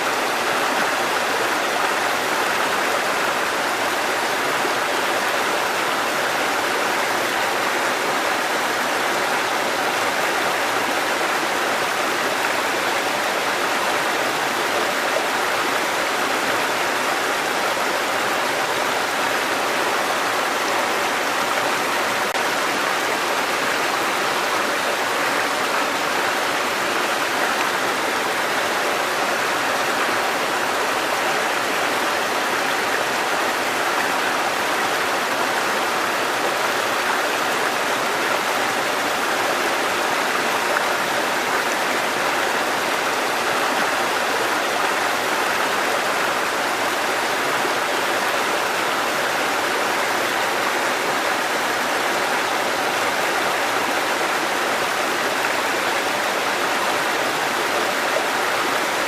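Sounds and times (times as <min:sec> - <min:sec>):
stream water cascading over rocks: 0:00.0 - 0:59.0.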